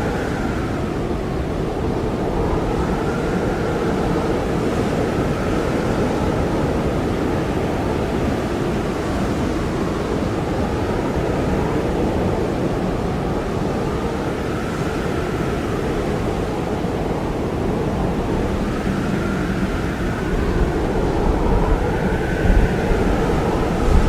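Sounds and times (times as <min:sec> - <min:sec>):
blizzard wind whistling: 0:00.0 - 0:24.0.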